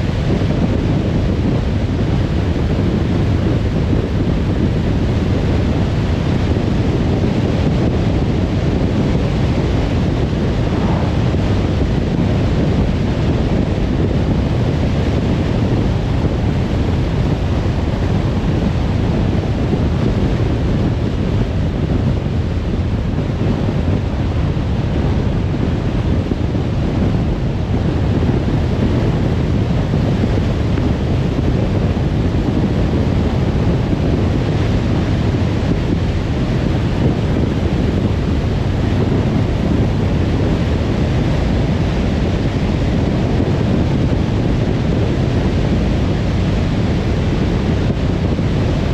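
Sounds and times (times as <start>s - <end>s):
car road and wind noise: 0.0s - 48.9s.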